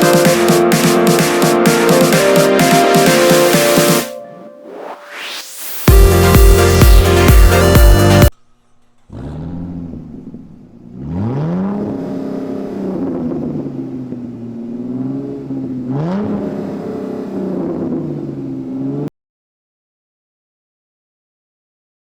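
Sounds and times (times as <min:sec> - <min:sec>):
car engine revving: 0:00.0 - 0:04.1, 0:04.7 - 0:19.1.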